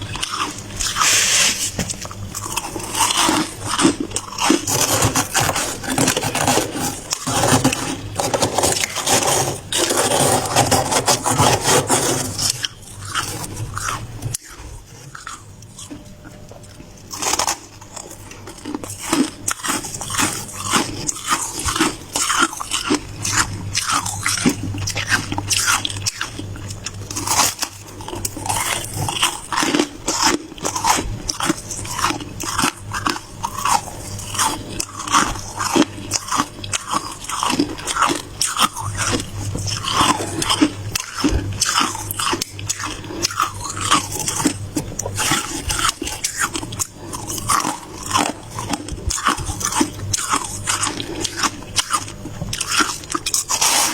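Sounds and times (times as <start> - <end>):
ice being chewed crunching: 0.0 - 53.9.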